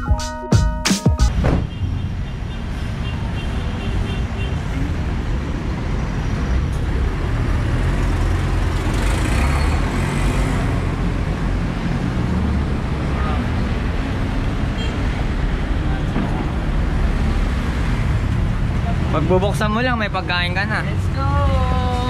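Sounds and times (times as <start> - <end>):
street traffic rumble: 1.3 - 22.0.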